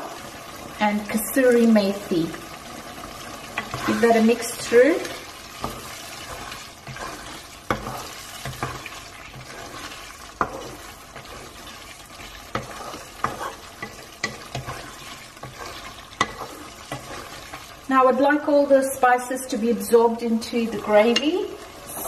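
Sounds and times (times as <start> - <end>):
wooden spatula scraping a wok: 0.0 - 17.9, 20.4 - 22.0
gravy sizzling: 0.0 - 22.0.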